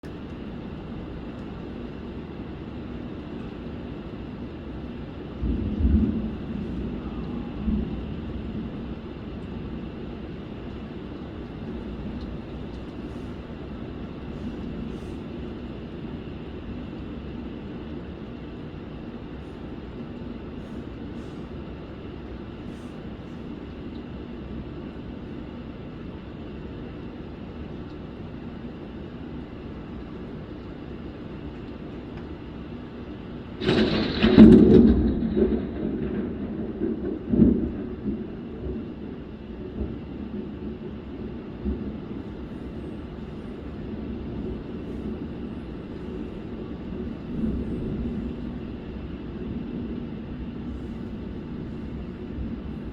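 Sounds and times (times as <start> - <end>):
thunder rumbling: 0.0 - 25.5, 33.0 - 52.9.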